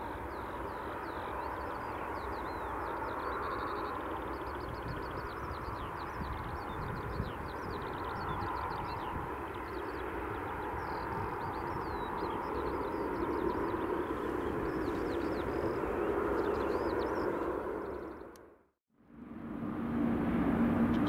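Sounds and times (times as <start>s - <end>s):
distant jet engines rumbling: 0.0s - 21.0s
small birds chirping: 0.3s - 18.4s.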